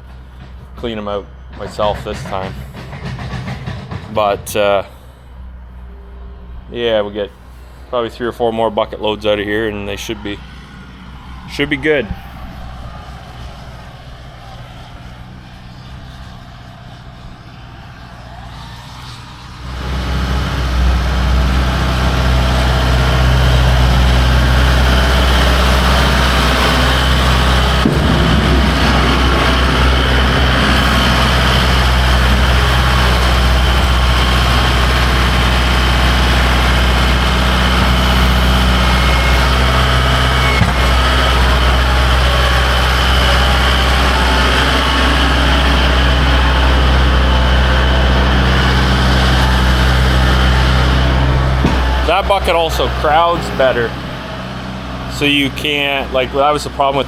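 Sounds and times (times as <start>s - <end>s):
tractor engine running loudly: 9.1s - 57.0s.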